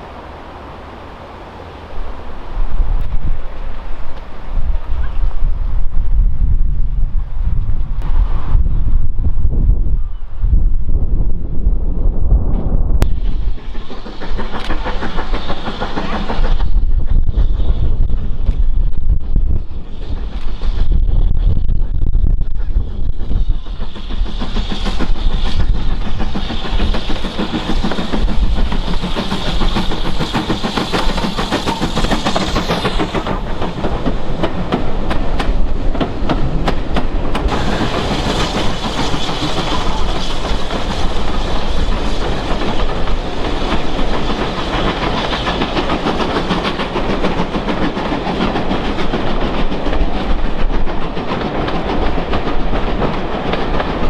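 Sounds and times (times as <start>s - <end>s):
steam train running: 0.0s - 54.0s.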